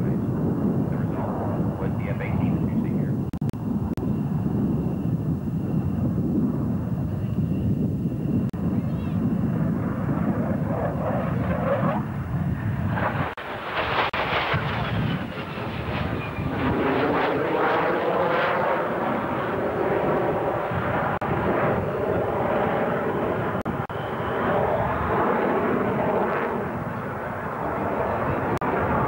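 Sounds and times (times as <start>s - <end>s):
fighter jet engines overhead: 0.0s - 29.0s.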